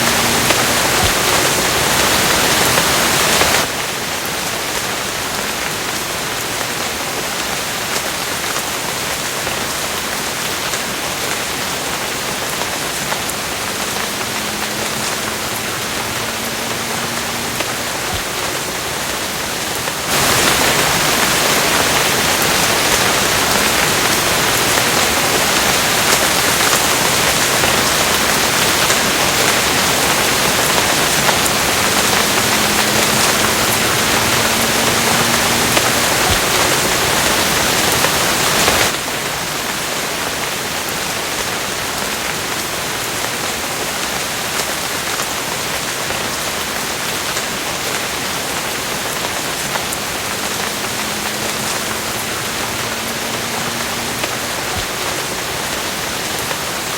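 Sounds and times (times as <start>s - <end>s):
heavy rain pattering: 0.0s - 56.9s.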